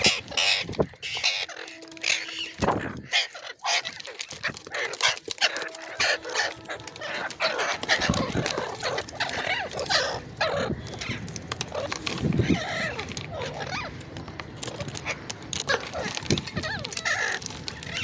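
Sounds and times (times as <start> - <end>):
parrot calling: 0.0 - 14.0, 14.7 - 18.0.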